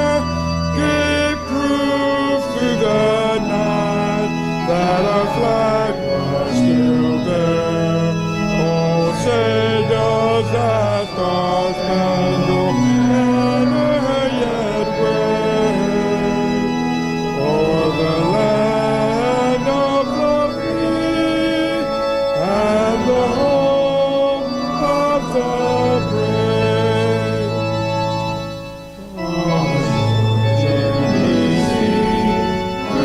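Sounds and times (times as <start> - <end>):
congregation singing a hymn: 0.0 - 33.0
sustained keyboard chords: 0.0 - 33.0.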